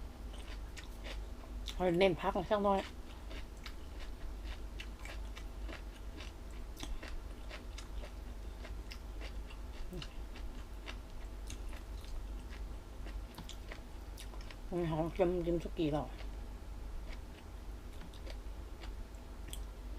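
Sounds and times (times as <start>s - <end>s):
chewing crunchy food: 0.3s - 15.2s, 16.0s - 19.7s.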